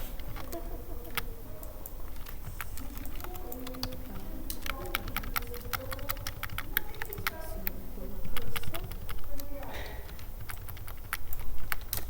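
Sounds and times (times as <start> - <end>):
computer keyboard typing: 0.0 - 12.0.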